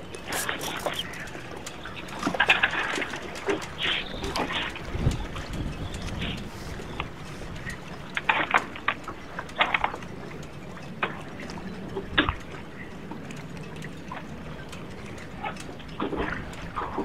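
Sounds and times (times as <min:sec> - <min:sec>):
rush of wind and water: 0:00.0 - 0:17.0
water lapping against hull: 0:00.0 - 0:17.0.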